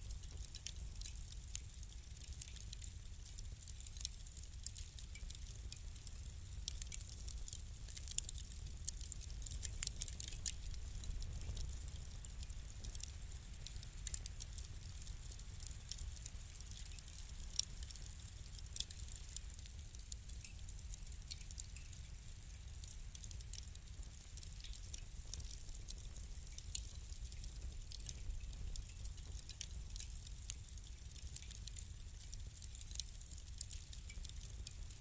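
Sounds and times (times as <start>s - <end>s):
fire popping: 0.0s - 35.0s
wood fire crackling: 0.0s - 35.0s.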